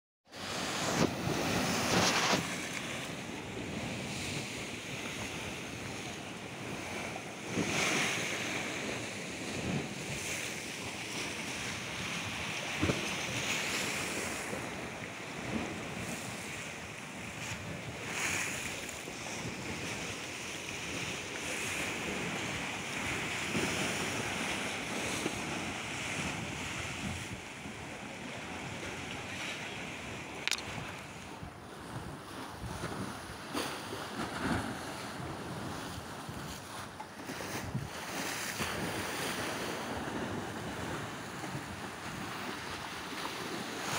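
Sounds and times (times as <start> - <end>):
sea waves breaking on rocks: 0.4 - 43.9
wind buffeting microphone: 0.4 - 43.9.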